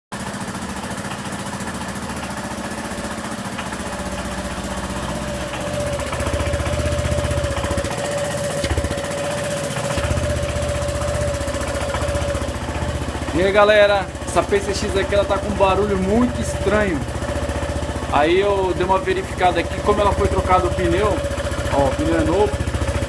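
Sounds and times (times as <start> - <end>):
scooter engine idling: 0.1 - 23.0.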